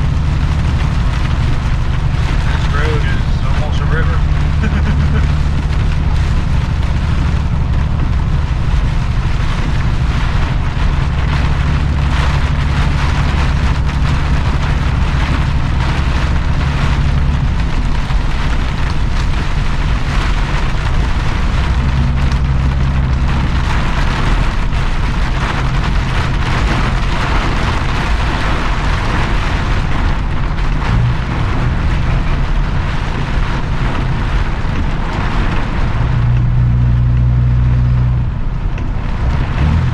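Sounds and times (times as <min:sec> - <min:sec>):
heavy rain hissing: 0:00.0 - 0:39.9
truck engine running: 0:00.0 - 0:39.9
tyres through standing water: 0:00.0 - 0:39.9.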